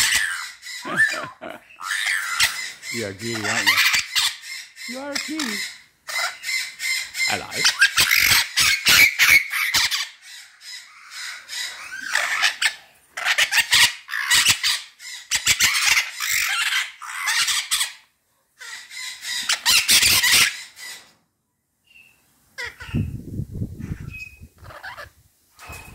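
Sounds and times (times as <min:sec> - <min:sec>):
parrot squawking: 0:00.0 - 0:18.0, 0:18.6 - 0:21.0, 0:22.6 - 0:23.1, 0:24.0 - 0:25.2.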